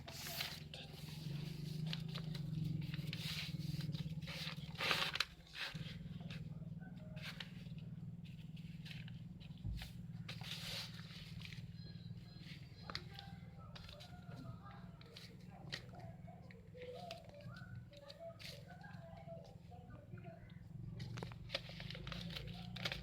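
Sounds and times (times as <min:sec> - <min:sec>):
paper rustling and crinkling: 0:00.0 - 0:19.6, 0:21.0 - 0:23.0
steady low hum: 0:00.0 - 0:23.0.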